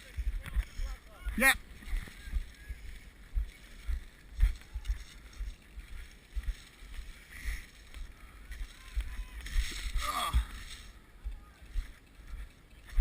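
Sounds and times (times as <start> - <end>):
low thuds of footsteps: 0.0 - 13.0.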